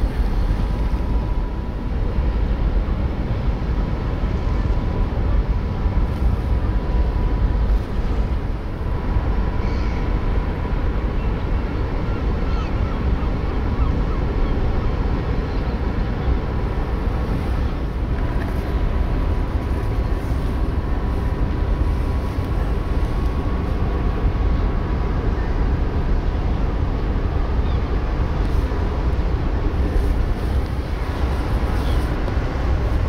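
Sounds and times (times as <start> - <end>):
ferry engines rumbling: 0.0 - 33.0.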